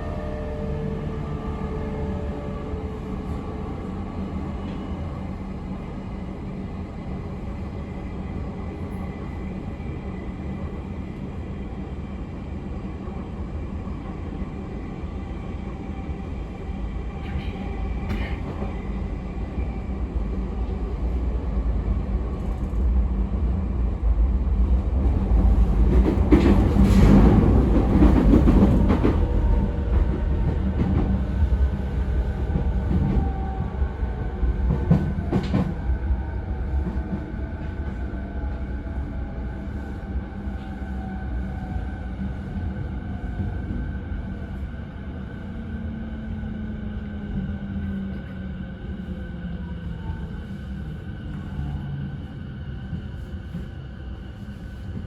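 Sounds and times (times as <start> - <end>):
train wheel and track rumble: 0.0 - 55.0.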